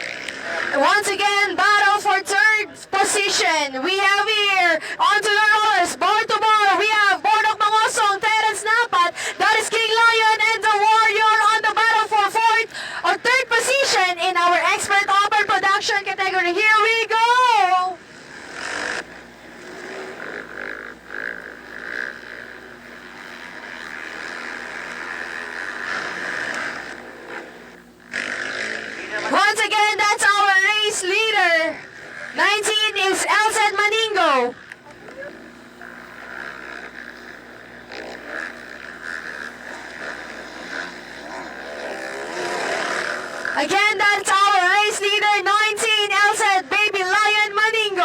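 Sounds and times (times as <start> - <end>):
dirt bike engines revving: 0.0 - 48.0.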